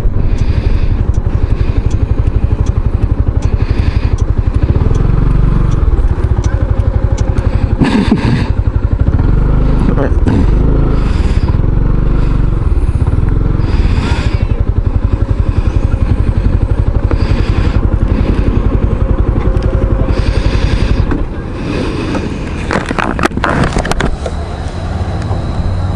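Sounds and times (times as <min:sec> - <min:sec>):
scooter engine running: 0:00.0 - 0:25.9.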